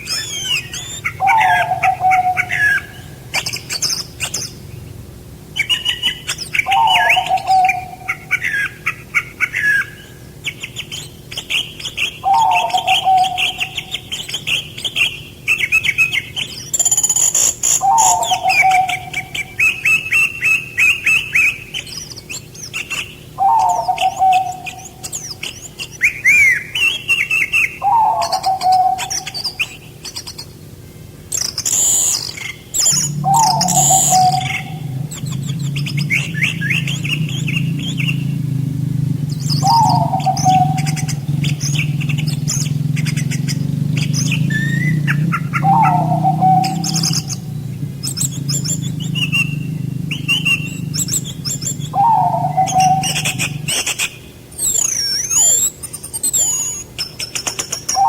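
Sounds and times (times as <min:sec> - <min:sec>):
low falling bird call: 0:00.0 - 0:58.0
songbirds chirping and trilling: 0:00.0 - 0:58.0.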